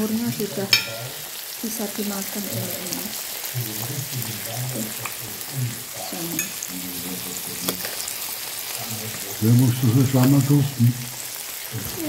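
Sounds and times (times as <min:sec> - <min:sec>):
quiet voices murmuring: 0:00.0 - 0:08.1, 0:08.7 - 0:12.0
meat sizzling in oil: 0:00.0 - 0:12.0.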